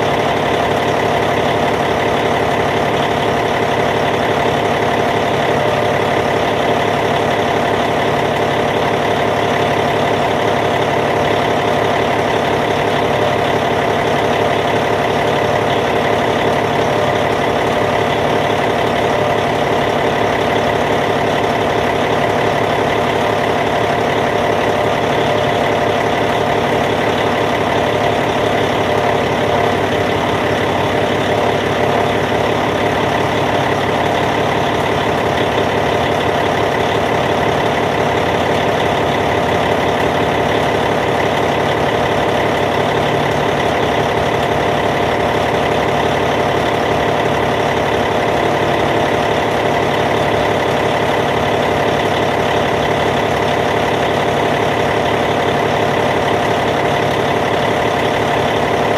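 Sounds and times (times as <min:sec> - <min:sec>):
bulldozer diesel engine idling: 0:00.0 - 0:58.9.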